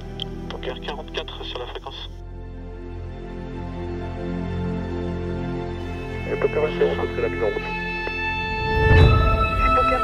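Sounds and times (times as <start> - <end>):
soft music of sustained tones: 0.0 - 10.0.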